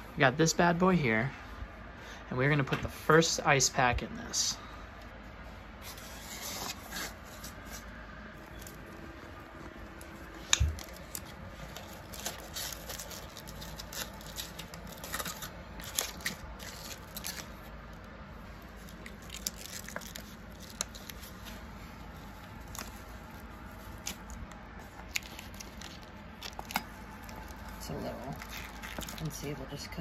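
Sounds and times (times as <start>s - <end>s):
gel packs rustling and crinkling: 5.8s - 30.0s.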